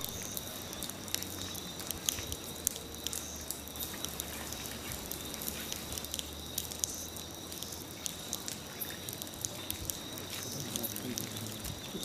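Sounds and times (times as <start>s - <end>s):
faint clicks and ticks: 0.0s - 12.0s
insects droning: 0.0s - 12.0s.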